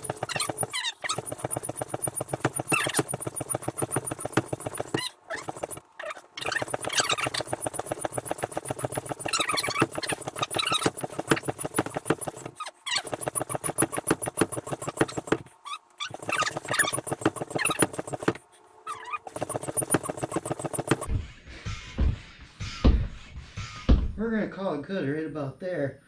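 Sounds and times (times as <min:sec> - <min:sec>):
hand pump strokes with squeaks: 0:00.0 - 0:21.1.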